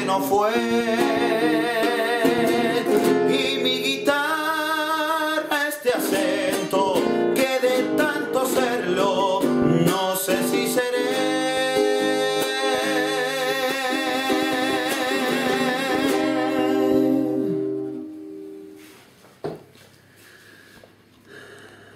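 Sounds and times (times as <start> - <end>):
man singing with vibrato: 0.0 - 18.1
nylon-string guitar: 0.0 - 19.0.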